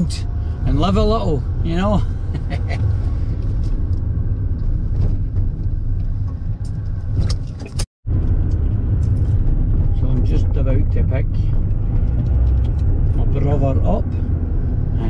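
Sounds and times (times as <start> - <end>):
engine and road rumble in car: 0.0 - 15.0.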